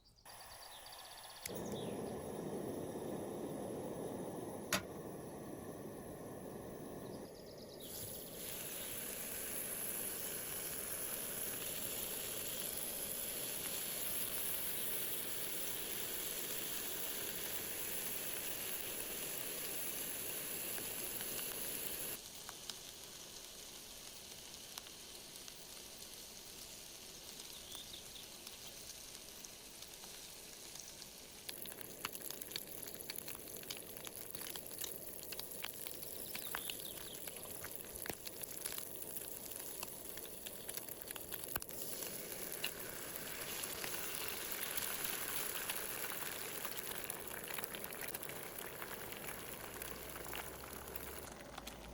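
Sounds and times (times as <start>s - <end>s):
food sizzling over campfire: 0.2s - 51.9s
sharp fire crackles: 0.3s - 51.9s.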